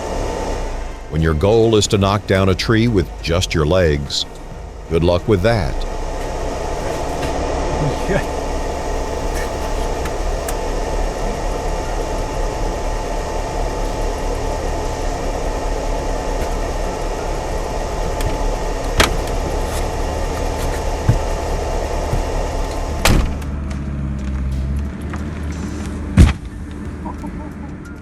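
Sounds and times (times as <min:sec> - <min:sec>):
motor hum: 0:00.0 - 0:28.0.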